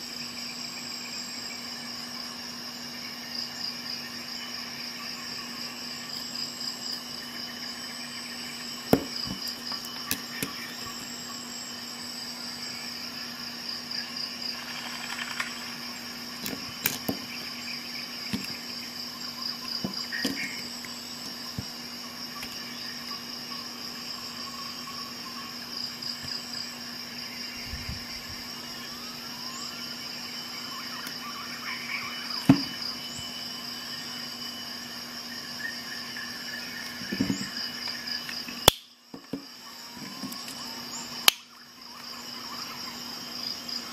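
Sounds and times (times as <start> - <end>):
crickets chirping: 0.0 - 43.9.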